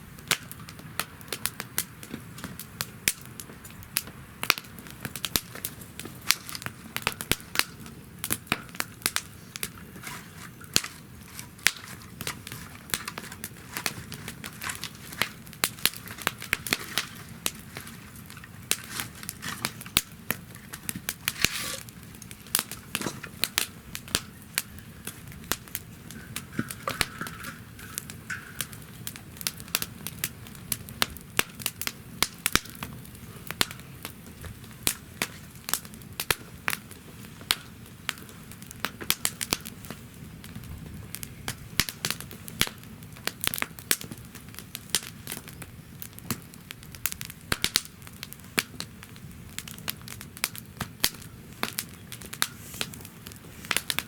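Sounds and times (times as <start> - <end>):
fire hissing: 0.0 - 54.0
wood fire crackling and popping: 0.0 - 54.0.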